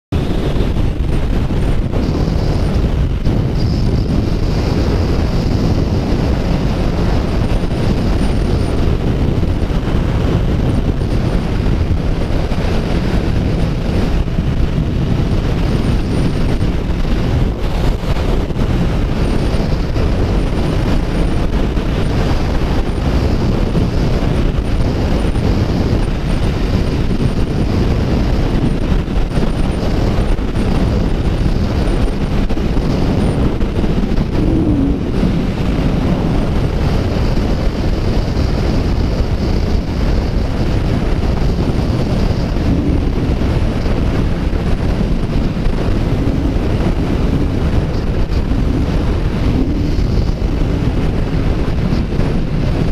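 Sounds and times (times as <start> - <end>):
wind noise on microphone: 0.0 - 52.9
motorcycle engine cruising: 0.2 - 52.9.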